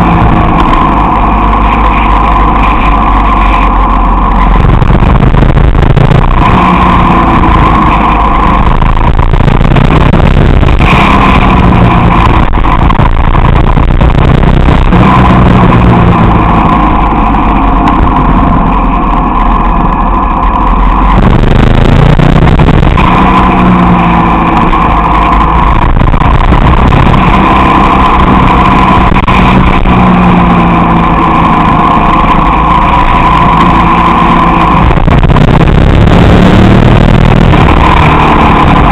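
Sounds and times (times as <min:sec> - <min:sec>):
motorcycle engine revving: 0:00.0 - 0:38.9
wind rumble on microphone: 0:00.0 - 0:38.9.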